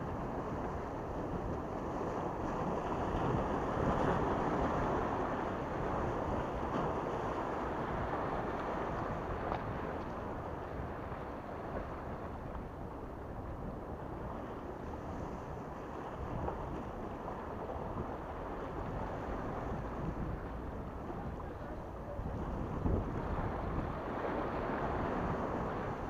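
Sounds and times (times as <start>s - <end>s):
wind rumbling on microphone: 0.0s - 26.0s
waves splashing against rocks: 0.1s - 26.0s.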